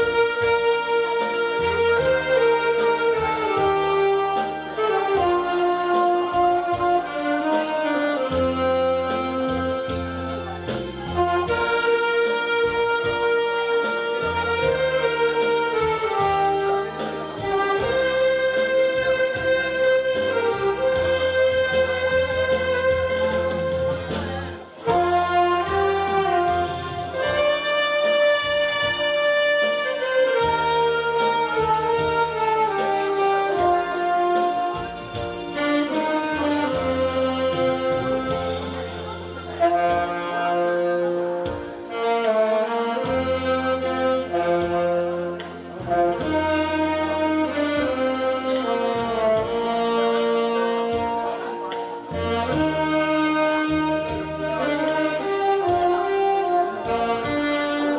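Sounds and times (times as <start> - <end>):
alto saxophones playing a melody: 0.0 - 57.9
backing track with bass line: 0.0 - 57.9.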